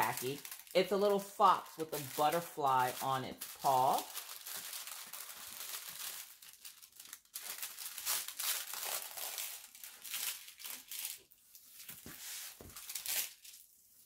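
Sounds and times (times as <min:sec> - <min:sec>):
paper rustling: 0:00.0 - 0:14.0
plastic packaging crinkling: 0:00.0 - 0:14.0.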